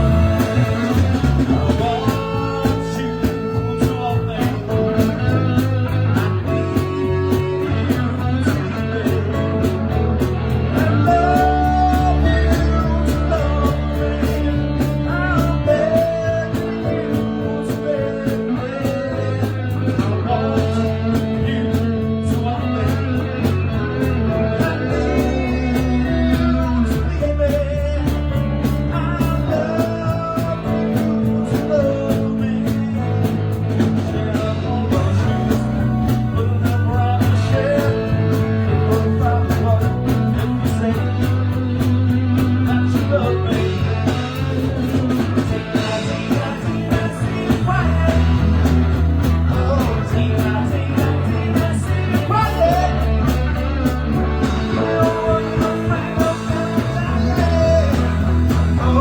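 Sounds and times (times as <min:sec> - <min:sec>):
bass line: 0:00.0 - 0:59.0
drums: 0:00.0 - 0:59.0
electric guitar: 0:00.0 - 0:59.0.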